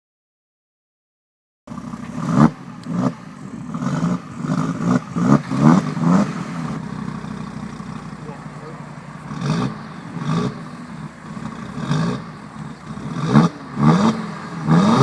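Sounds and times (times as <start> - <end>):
car engine idling: 1.7 - 15.0
car engine revving: 1.7 - 15.0.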